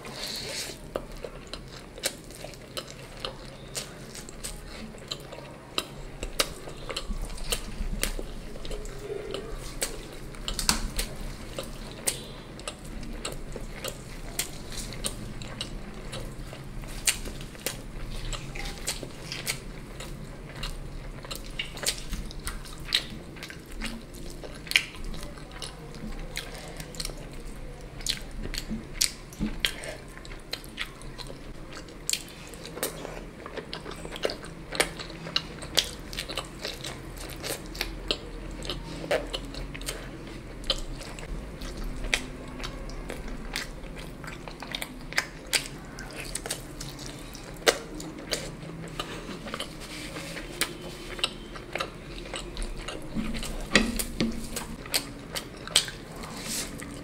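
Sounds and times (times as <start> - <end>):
food being bitten and chewed: 0.0 - 57.0.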